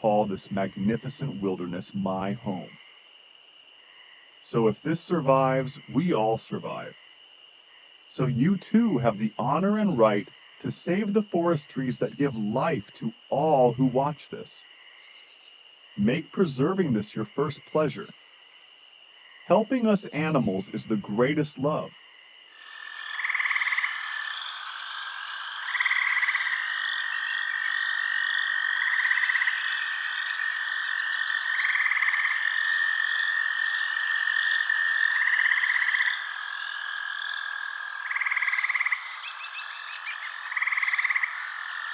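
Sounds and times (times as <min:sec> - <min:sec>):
frogs croaking: 0:00.0 - 0:41.9
loud pulsed frog call: 0:00.0 - 0:41.9.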